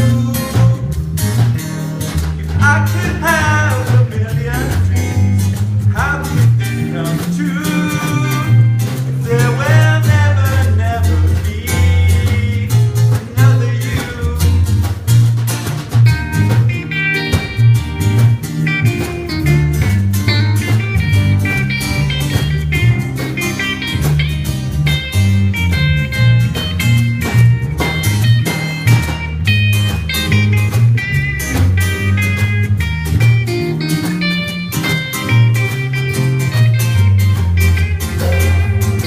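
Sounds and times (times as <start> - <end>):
small jazz group playing: 0.0 - 39.0.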